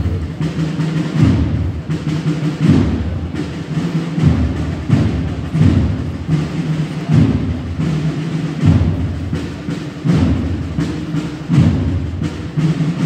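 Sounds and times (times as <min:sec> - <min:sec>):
deep drum beats: 0:00.0 - 0:13.0.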